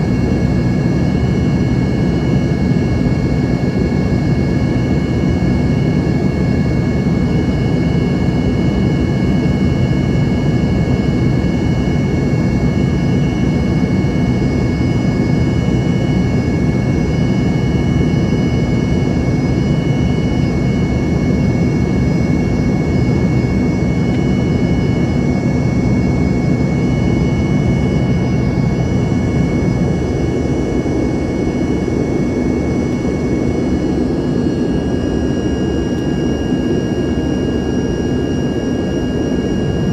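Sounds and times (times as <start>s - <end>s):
high engine whine: 0.0s - 39.9s
jet engine roar in cabin: 0.0s - 39.9s.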